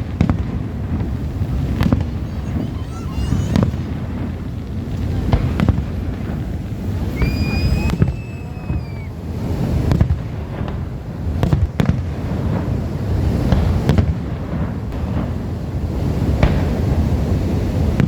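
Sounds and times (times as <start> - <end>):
fireworks bangs and pops: 0.0 - 18.0
whistling firework: 0.0 - 18.0.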